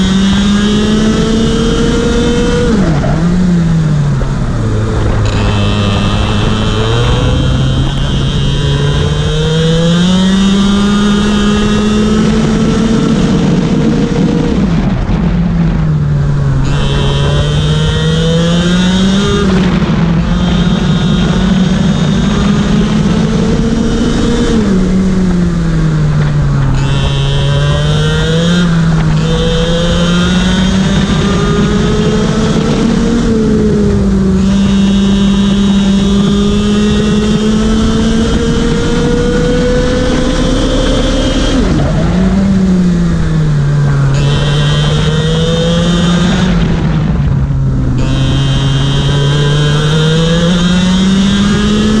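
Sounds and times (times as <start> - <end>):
kart engine racing: 0.0 - 52.0.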